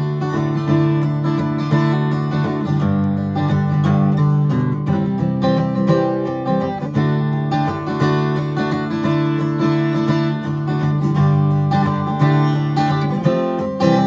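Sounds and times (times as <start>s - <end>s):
acoustic guitar strummed and picked: 0.0s - 14.0s.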